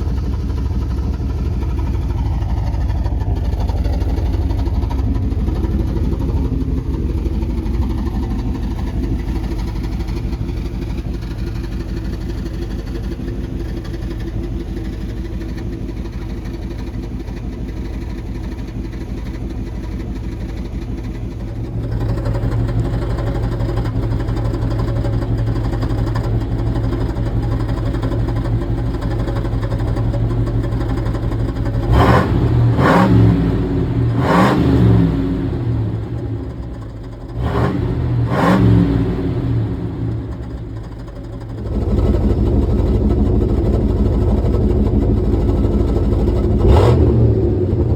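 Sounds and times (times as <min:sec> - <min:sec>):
car engine and exhaust droning: 0:00.0 - 0:47.9.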